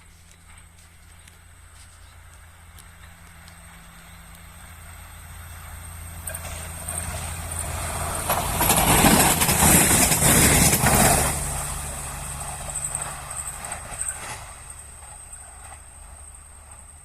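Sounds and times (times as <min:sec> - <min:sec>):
train wheels on rails: 0:00.0 - 0:17.0
wheels clacking over rail joints: 0:00.2 - 0:17.0.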